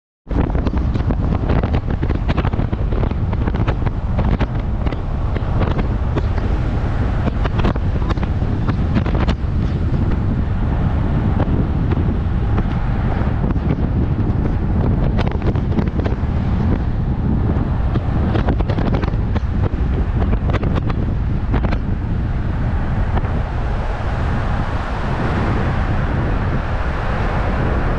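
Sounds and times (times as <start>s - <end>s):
road rumble: 0.3s - 27.9s
wind buffeting microphone: 0.3s - 27.9s.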